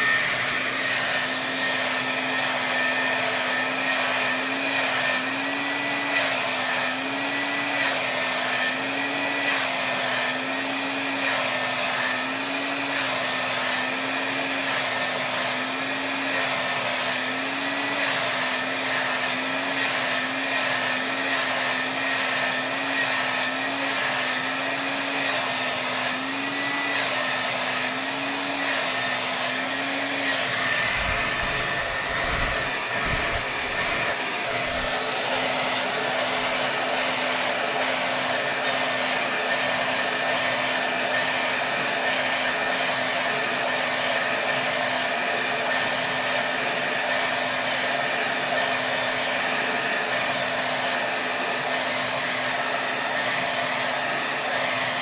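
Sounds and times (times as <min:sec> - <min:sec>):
hair dryer blowing air: 0:00.0 - 0:55.0
hair dryer motor hum: 0:00.0 - 0:55.0.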